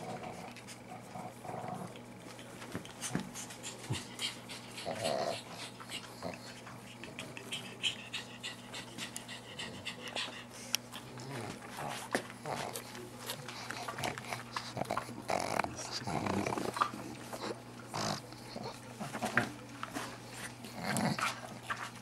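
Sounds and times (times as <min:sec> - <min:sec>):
puppies panting and snuffling: 0:00.0 - 0:22.0.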